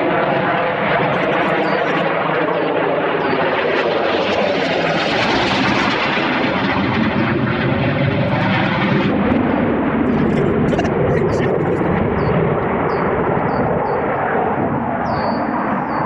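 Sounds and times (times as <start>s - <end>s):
military jet flying over: 0.0s - 16.0s.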